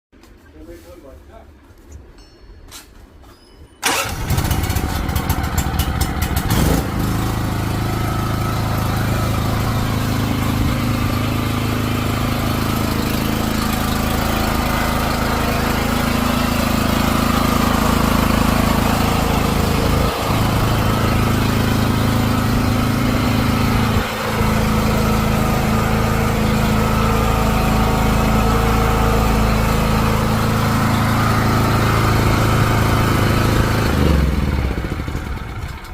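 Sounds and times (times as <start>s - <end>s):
petrol generator engine running: 3.8s - 35.9s.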